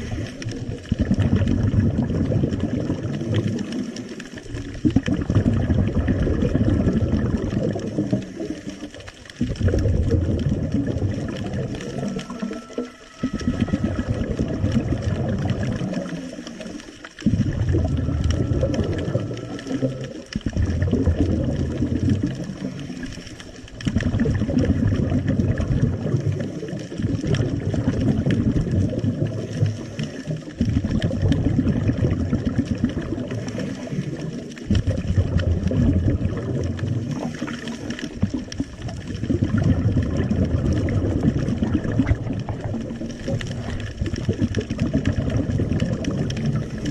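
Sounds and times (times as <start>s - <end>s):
underwater exhaled bubbles: 0.0s - 46.9s.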